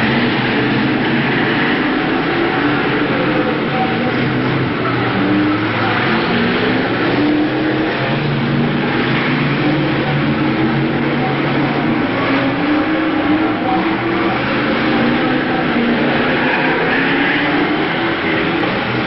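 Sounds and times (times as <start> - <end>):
racing car engines: 0.0 - 19.0.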